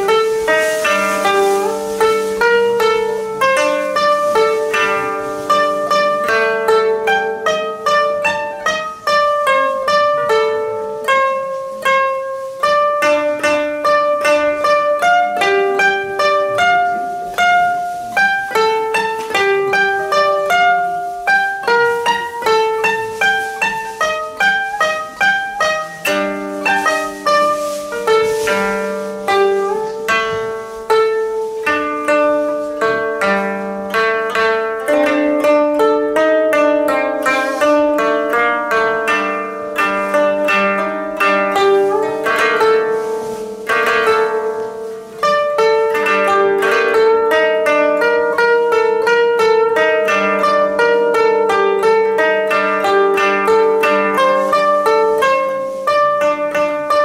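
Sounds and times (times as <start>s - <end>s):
koto plucked notes: 0.0s - 57.0s.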